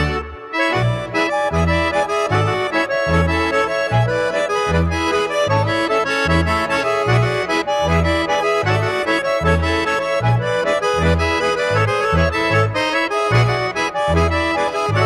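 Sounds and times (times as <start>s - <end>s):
traditional-style tune with bass line: 0.0s - 15.0s.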